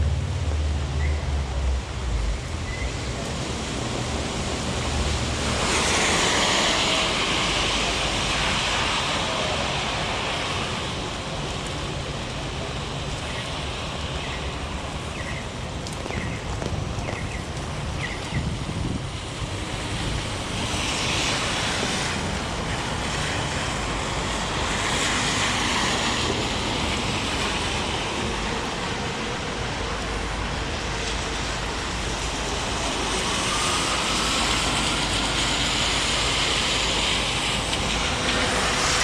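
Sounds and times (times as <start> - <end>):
heavy rain: 0.0 - 39.0
tyres hissing on wet pavement: 0.0 - 39.0.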